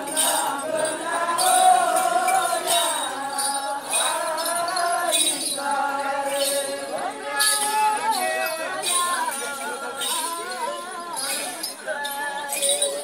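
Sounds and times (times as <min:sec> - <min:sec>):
group singing in unison: 0:00.0 - 0:13.0
rhythmic jingling: 0:00.0 - 0:13.0.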